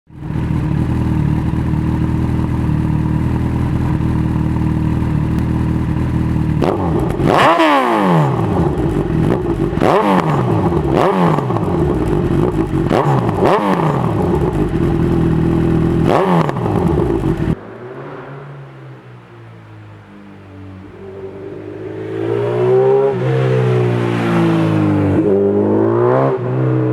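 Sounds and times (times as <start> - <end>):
motorcycle engine idling and revving: 0.1 - 26.9.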